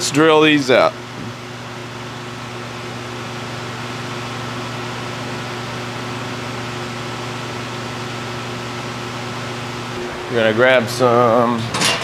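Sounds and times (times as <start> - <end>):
constant low hum: 0.0 - 12.0
electric shop machinery whirring: 0.0 - 12.0.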